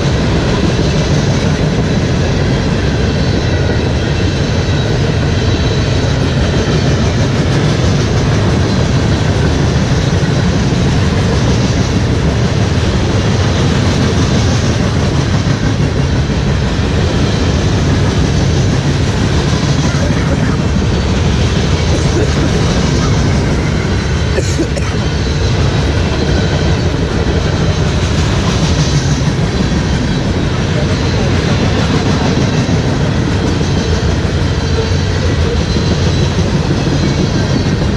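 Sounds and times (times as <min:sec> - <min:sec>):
freight train wheels rumbling: 0:00.0 - 0:37.9.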